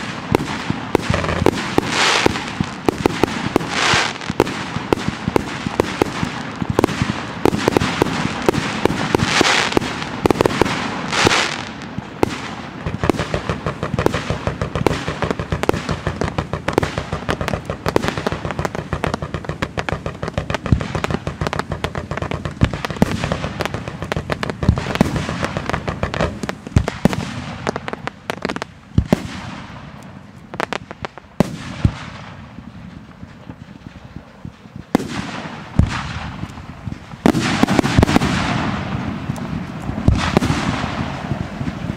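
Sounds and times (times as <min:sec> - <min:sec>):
fireworks crackling and banging: 0:00.0 - 0:41.9.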